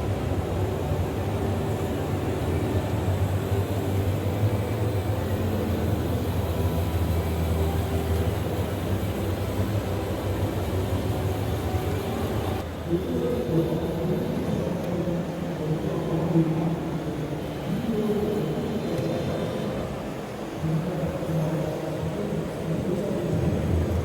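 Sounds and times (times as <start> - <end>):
model machines mechanical hum: 0.0 - 24.0.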